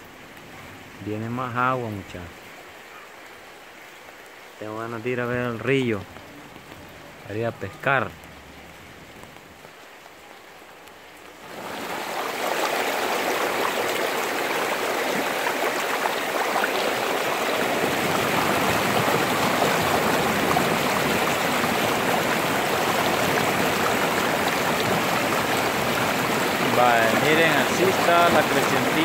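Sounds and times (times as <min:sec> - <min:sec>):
flooded river rushing: 0:00.0 - 0:29.0.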